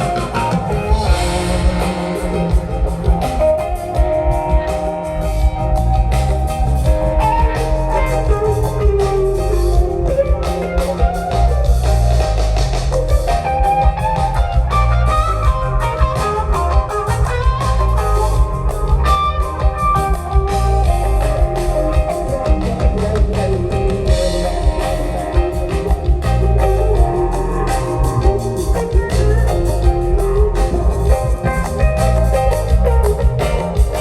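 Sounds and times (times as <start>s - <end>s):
bass guitar: 0.0s - 34.0s
drum kit: 0.0s - 34.0s
electric guitar lead lines: 0.0s - 34.0s.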